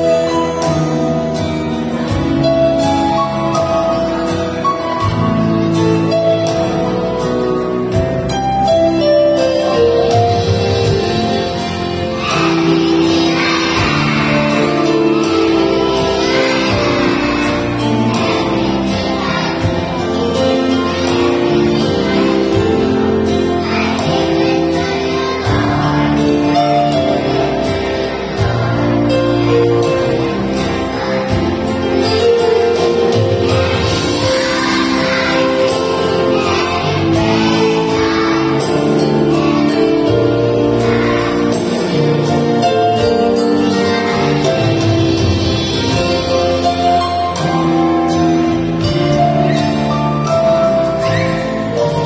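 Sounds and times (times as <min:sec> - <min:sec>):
backing music: 0:00.0 - 0:52.0
young children singing: 0:09.0 - 0:52.0.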